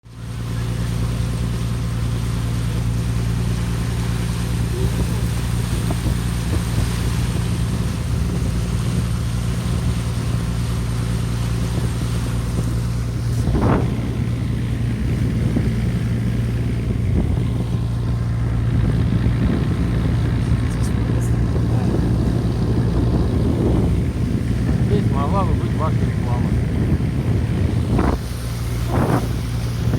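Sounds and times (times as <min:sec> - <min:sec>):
low mechanical drone: 0:00.0 - 0:29.9
wind on microphone: 0:04.6 - 0:10.6, 0:11.5 - 0:29.9.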